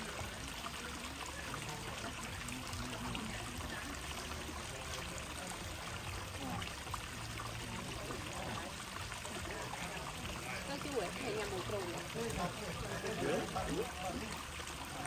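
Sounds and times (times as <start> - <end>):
water trickling into a pond: 0.0 - 15.0.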